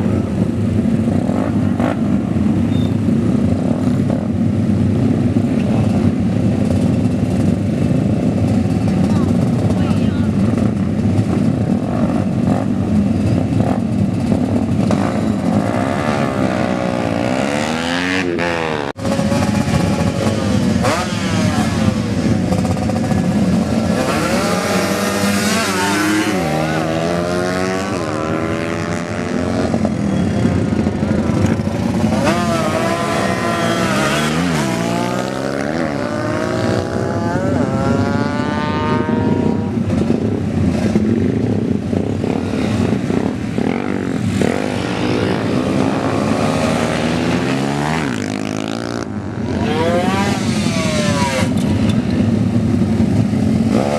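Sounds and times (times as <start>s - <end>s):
racing motorcycles revving: 0.0s - 53.9s.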